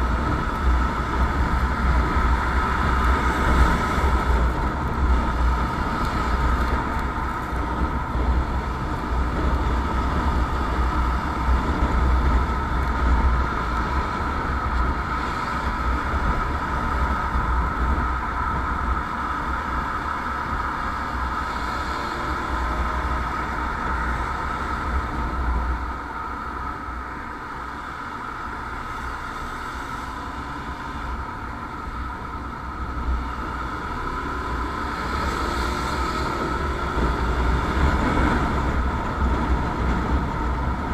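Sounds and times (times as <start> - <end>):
motorcycle engine and road noise: 0.0 - 40.9
wind rumble on microphone: 0.0 - 40.9.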